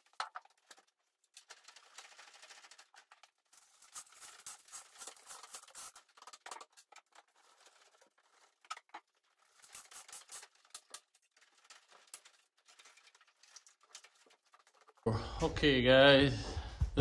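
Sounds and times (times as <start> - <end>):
plastic tubing rustling and scraping: 0.0 - 15.1.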